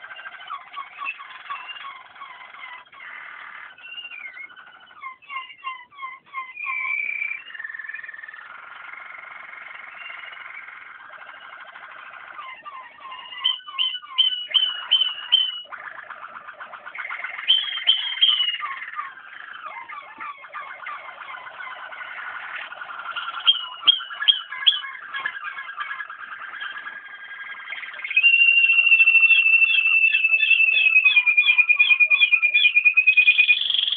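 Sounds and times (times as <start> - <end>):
canary trills: 0.0 - 33.9
sharp repeated bird notes: 0.0 - 33.9.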